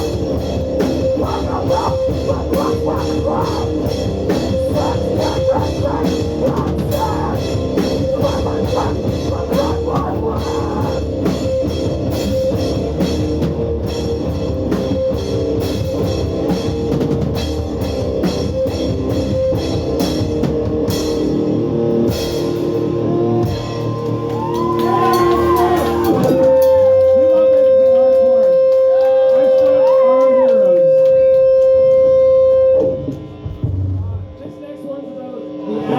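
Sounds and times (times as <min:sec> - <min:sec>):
bass guitar: 0:00.0 - 0:34.4
fast drums: 0:00.0 - 0:34.6
distorted guitars: 0:00.0 - 0:35.9.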